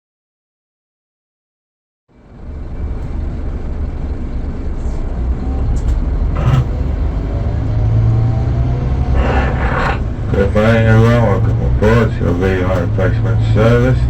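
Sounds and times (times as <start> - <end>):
diesel engine low rumble: 2.1 - 14.0.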